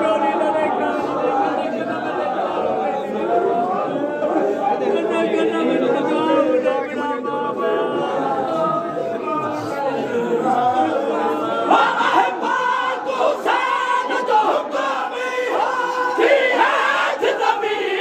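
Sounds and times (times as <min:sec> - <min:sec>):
men chanting together: 0:00.0 - 0:18.0.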